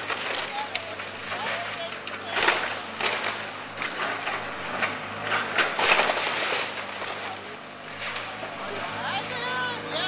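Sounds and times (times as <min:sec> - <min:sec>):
wood cracking and crunching: 0:00.0 - 0:08.6
diesel engine running: 0:00.0 - 0:10.0.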